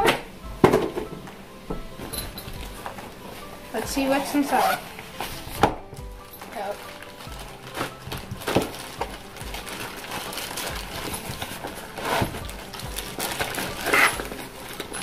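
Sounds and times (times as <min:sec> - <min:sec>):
plastic wrapping crinkling: 0:00.4 - 0:15.0
nylon bag rustling: 0:00.8 - 0:15.0.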